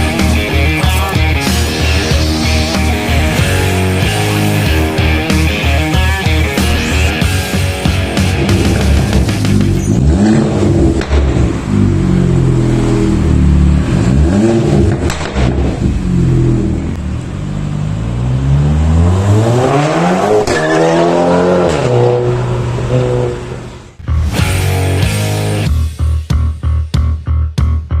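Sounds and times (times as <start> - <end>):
car engine revving: 0.0 - 25.7.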